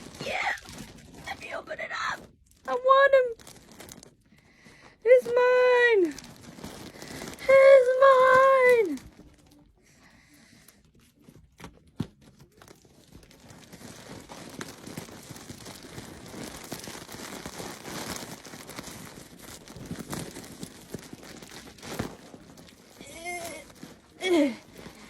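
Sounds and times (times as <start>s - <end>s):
packaging crinkling and rustling: 0.0s - 25.0s.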